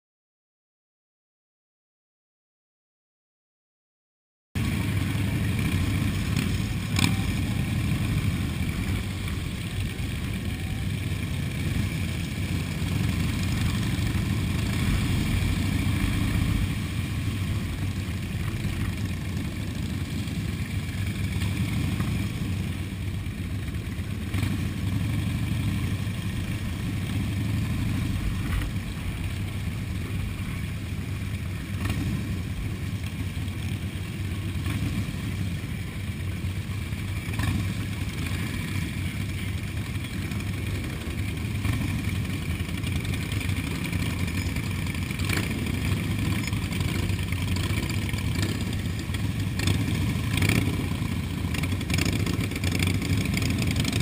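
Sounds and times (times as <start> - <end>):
motorcycle engines droning: 4.6 - 54.0.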